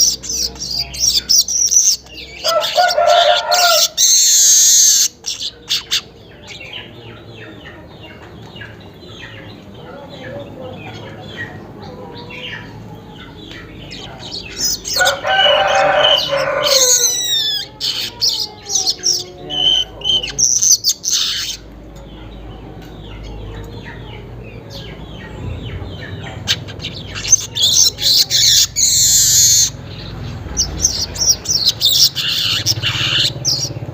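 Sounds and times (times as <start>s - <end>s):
birds chirping and chattering: 0.0s - 33.9s.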